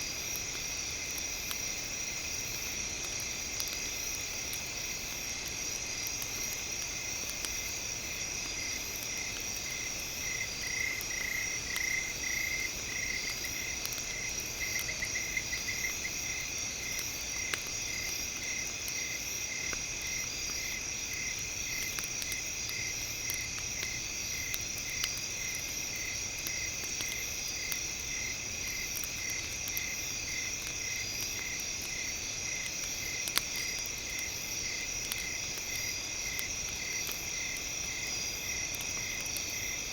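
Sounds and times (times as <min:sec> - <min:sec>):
insect chirping: 0:00.0 - 0:39.9
insect drone: 0:00.0 - 0:39.9
burning wood popping: 0:00.2 - 0:39.9.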